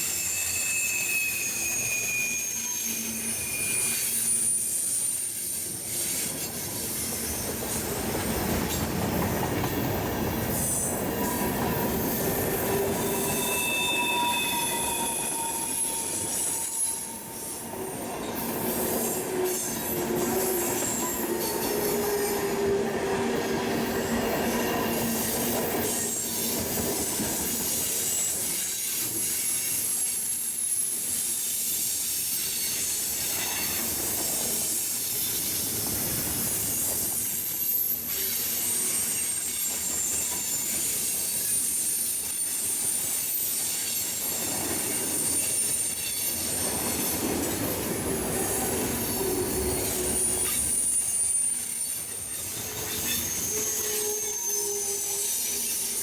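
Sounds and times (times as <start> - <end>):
passing train noise: 0.0 - 56.0
train wheels squealing on rails: 0.0 - 56.0.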